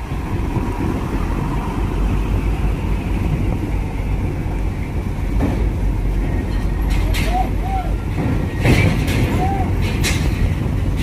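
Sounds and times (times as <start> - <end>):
heavy vehicle engines rumbling: 0.0 - 11.0.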